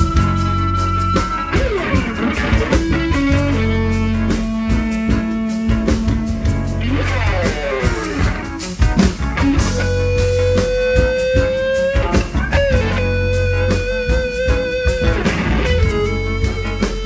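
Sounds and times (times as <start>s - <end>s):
bass: 0.0s - 17.0s
drum kit: 0.0s - 17.0s
overdriven electric guitar solo: 0.0s - 17.0s.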